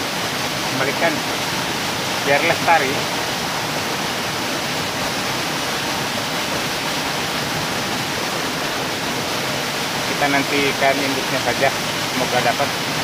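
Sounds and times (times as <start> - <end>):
small waterfall splashing: 0.0 - 13.0.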